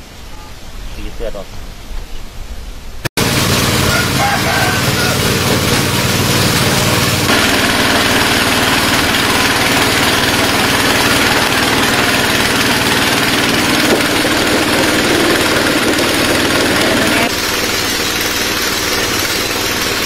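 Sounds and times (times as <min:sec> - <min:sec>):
small petrol engine running: 0:03.2 - 0:20.0.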